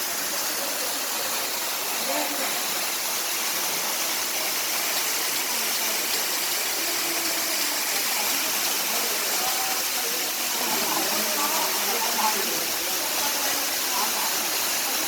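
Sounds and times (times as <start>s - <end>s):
waterfall crashing: 0.0s - 15.0s.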